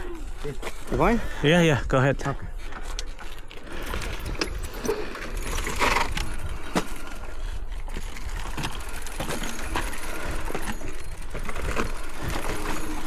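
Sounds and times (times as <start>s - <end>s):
bike chain and frame rattling: 0.0s - 13.0s.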